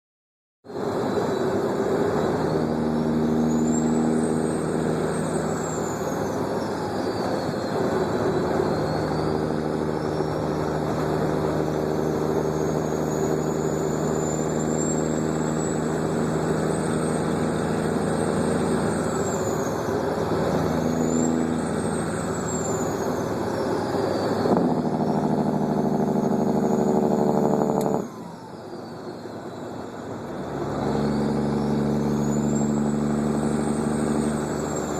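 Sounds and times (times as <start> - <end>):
diesel engine running: 0.7 - 34.9
turbocharger whistle: 0.7 - 34.9.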